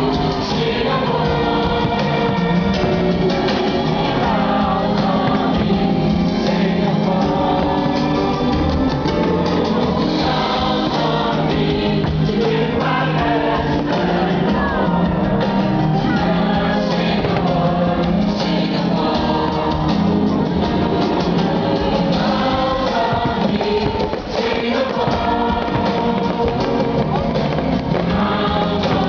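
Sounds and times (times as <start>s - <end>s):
choir singing with instruments: 0.0s - 29.0s.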